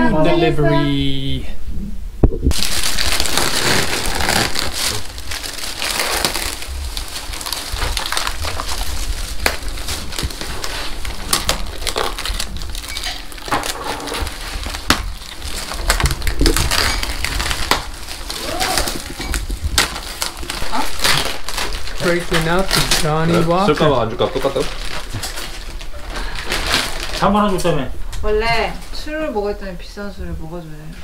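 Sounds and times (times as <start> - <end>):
packaging rustling and crinkling: 2.5 - 28.6.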